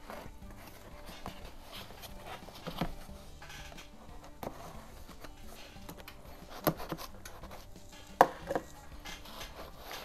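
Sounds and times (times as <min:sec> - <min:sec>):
cardboard box rubbing and scraping: 0:00.0 - 0:10.0.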